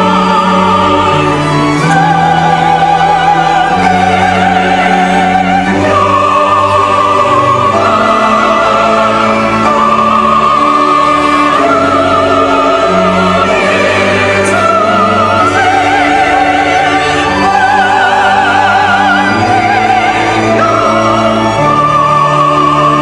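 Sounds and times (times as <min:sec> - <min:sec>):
church choir singing: 0:00.0 - 0:23.0
instrumental accompaniment: 0:00.0 - 0:23.0.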